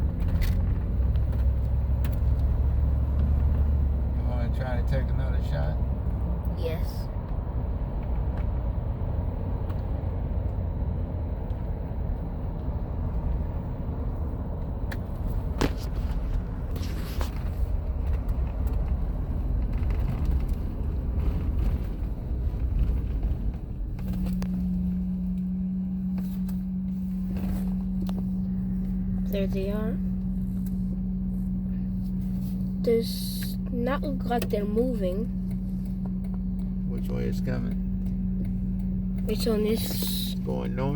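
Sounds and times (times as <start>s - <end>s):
road and engine rumble: 0.0s - 40.9s
steady low hum: 0.0s - 40.9s.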